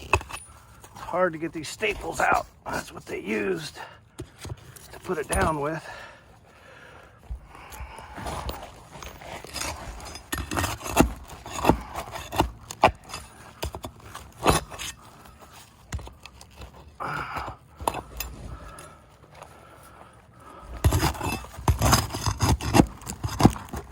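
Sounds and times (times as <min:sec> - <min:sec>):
shingles scraping and knocking: 0:00.0 - 0:06.0, 0:07.6 - 0:18.8, 0:20.5 - 0:23.9.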